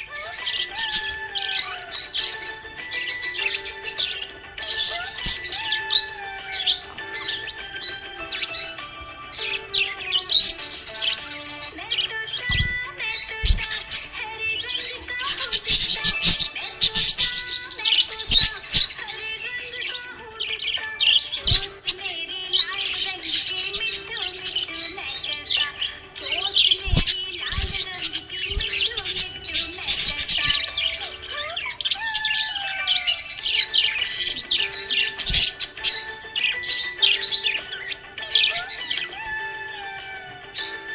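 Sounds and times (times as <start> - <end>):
parrots chirping: 0.0 - 40.9.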